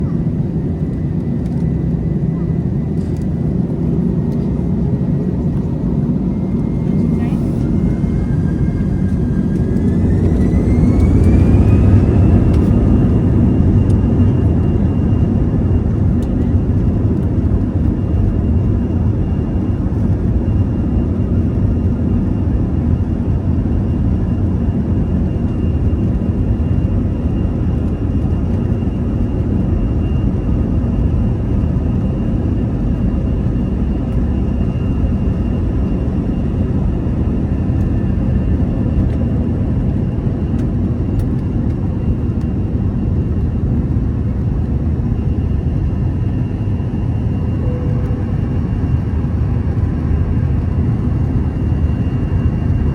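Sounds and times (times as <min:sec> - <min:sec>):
faint high engine whine: 0:00.0 - 0:52.9
jet engines roaring on takeoff: 0:00.0 - 0:52.9.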